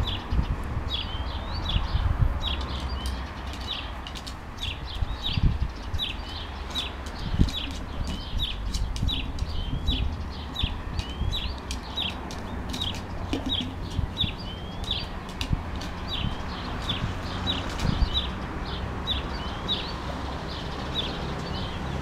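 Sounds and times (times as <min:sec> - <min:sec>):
small bird chirping: 0:00.0 - 0:18.4.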